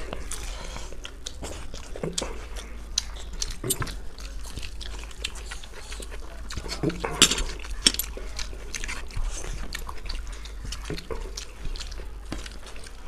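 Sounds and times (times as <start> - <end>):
chewing and mouth smacks: 0.0 - 13.0
fingers mixing food on plate: 0.0 - 13.0.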